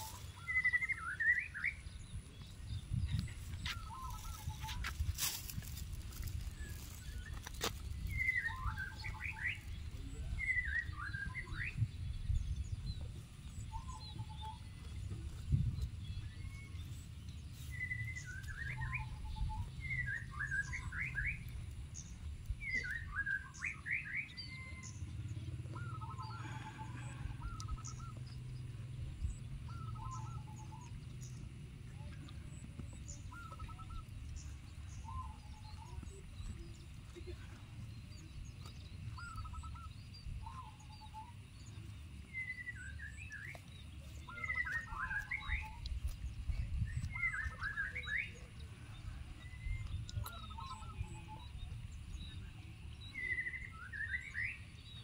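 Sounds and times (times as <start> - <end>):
small birds chirping: 0.0 - 55.0
steady low rumble: 1.7 - 53.7.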